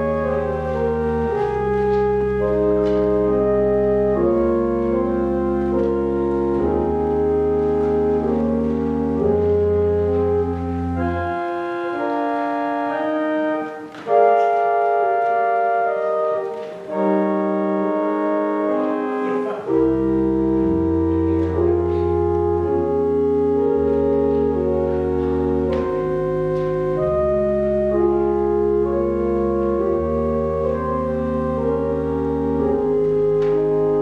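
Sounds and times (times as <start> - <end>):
church organ chords: 0.0 - 34.0.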